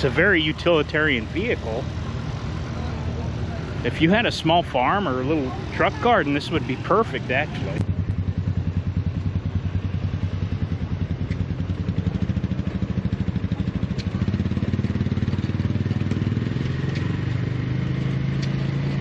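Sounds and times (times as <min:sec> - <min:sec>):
engine running with low pulsing: 0:00.0 - 0:19.0.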